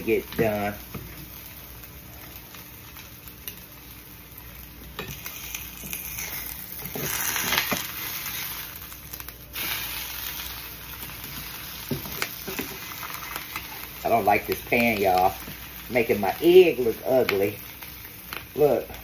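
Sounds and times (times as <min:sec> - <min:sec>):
eggs sizzling in a pan: 0:00.0 - 0:19.0.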